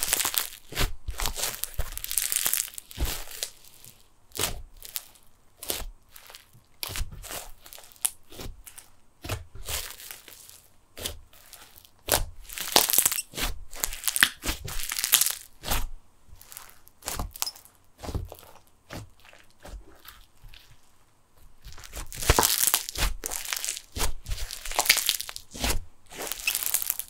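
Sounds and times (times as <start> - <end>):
slime fizzy crackling and popping: 0.0 - 8.9, 9.6 - 15.8, 16.4 - 21.0, 21.6 - 27.0.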